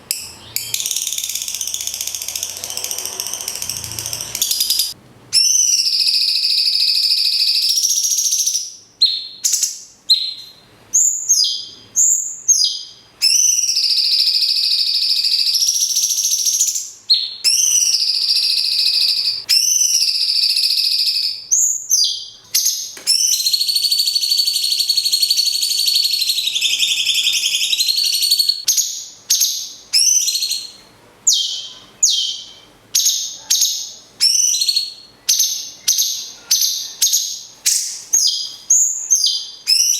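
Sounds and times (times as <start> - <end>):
bird trilling calls: 0.1 - 39.9
sharp bird chirps: 0.1 - 39.9.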